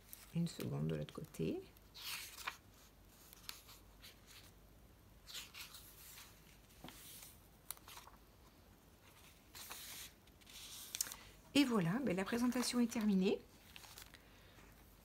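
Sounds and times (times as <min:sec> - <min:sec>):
paper pages rustling: 0:00.0 - 0:04.6, 0:05.2 - 0:08.2, 0:09.0 - 0:15.0.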